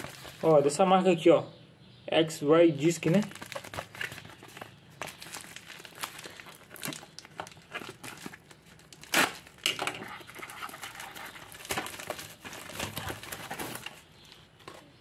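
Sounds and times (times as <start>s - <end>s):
plastic tearing: 0.0s - 0.6s, 3.0s - 14.8s
plastic mailer crackling: 0.0s - 0.9s, 2.9s - 14.8s.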